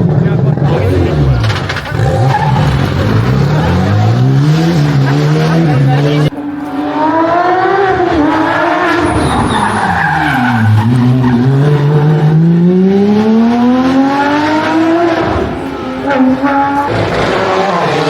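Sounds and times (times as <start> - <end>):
rally car engine: 0.0 - 18.0
tyre noise: 0.6 - 18.0.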